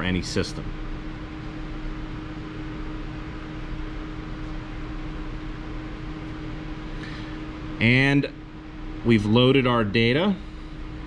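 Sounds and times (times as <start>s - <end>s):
fan-like hum and hiss: 0.0s - 11.0s.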